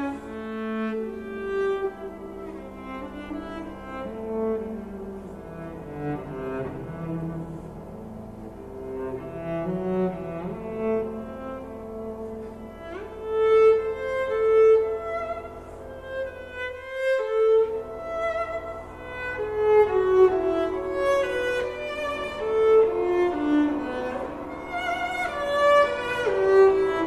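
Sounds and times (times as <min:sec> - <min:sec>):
bowed string slow melody: 0:00.0 - 0:27.0.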